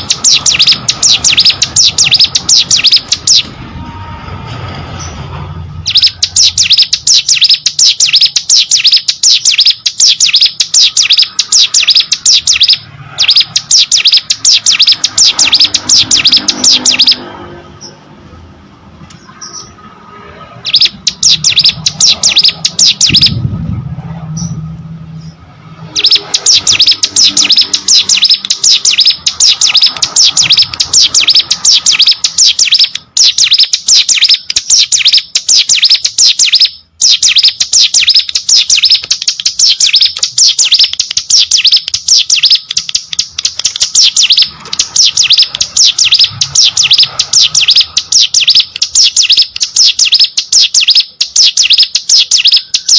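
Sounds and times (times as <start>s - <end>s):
bird singing fast chipping notes: 0.0s - 3.5s, 5.8s - 18.0s, 20.6s - 23.4s, 24.3s - 52.9s.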